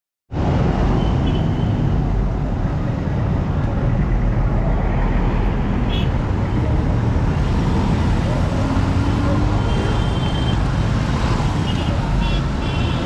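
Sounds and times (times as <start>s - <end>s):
road traffic passing: 0.3s - 13.0s.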